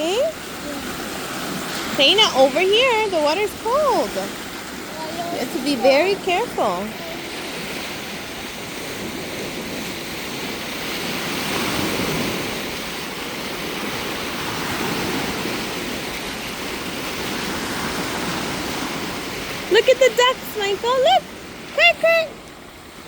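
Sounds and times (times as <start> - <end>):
waves washing onto shore: 0.0 - 23.0.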